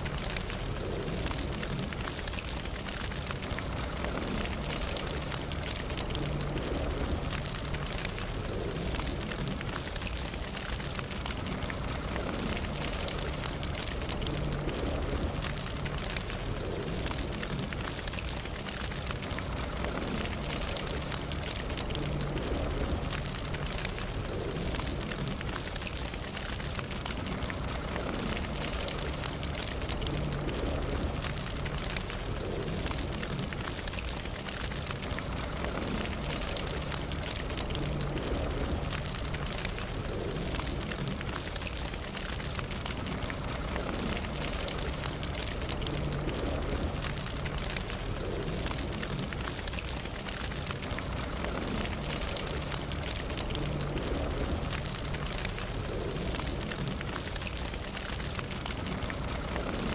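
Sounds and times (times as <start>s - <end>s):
campfire crackling and hissing: 0.0s - 59.9s.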